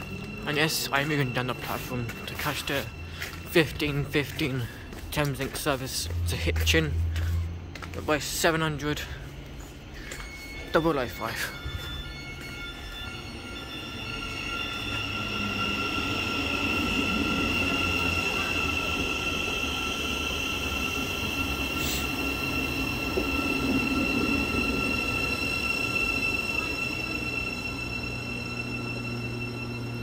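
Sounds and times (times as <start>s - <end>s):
high-pitched train whine: 0.0s - 30.0s
train rumbling to a stop: 0.0s - 30.0s.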